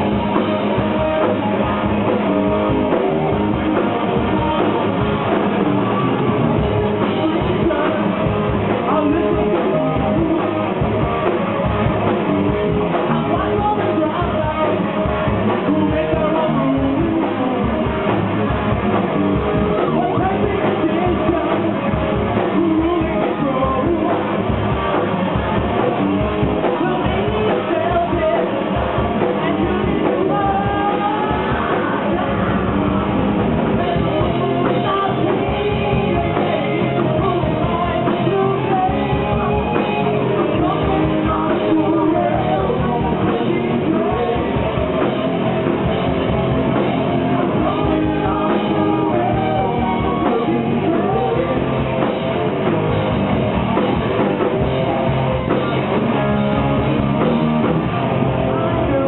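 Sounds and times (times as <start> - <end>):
person singing: 0.0 - 11.4, 12.8 - 18.2, 19.4 - 24.8, 25.6 - 53.2, 53.8 - 59.0
live rock band playing: 0.0 - 59.0.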